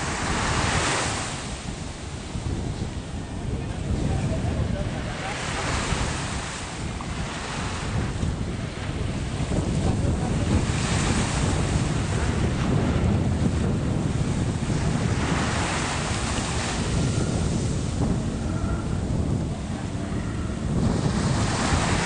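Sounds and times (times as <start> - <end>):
sea surf: 0.0 - 22.0
wind buffeting microphone: 0.0 - 22.0.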